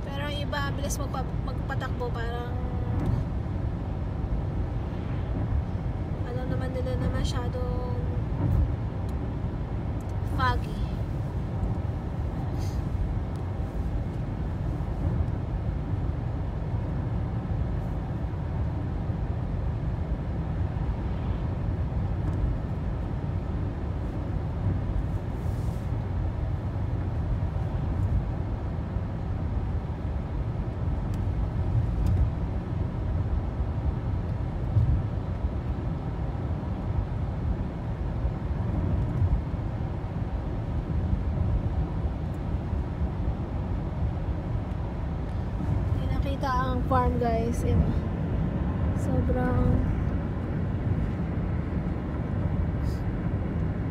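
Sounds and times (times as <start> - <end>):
car driving on pavement: 0.0 - 53.9.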